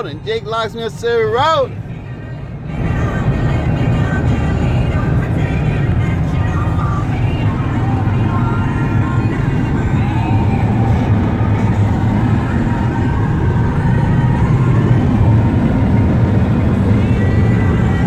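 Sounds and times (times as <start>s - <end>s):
vehicle road and engine noise: 0.0s - 18.0s.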